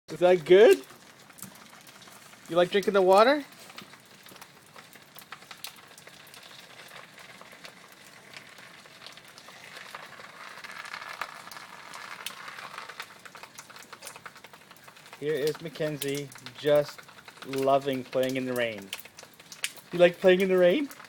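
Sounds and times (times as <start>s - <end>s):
rain pattering: 0.1s - 21.0s
water dripping from eaves: 0.1s - 21.0s.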